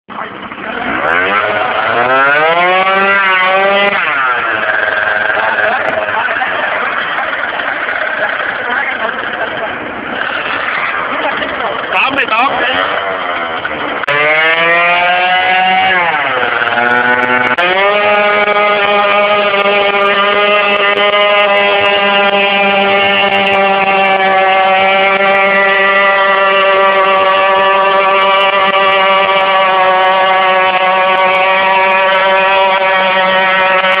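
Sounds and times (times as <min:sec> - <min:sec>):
motorcycle engine revving: 0:00.1 - 0:34.0.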